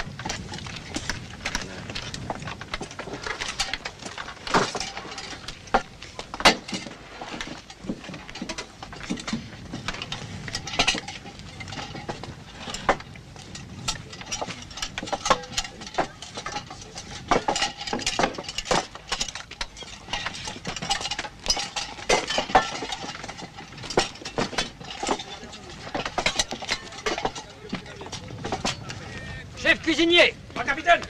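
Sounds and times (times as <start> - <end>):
metal dishes and utensils clattering: 0.0 - 29.1.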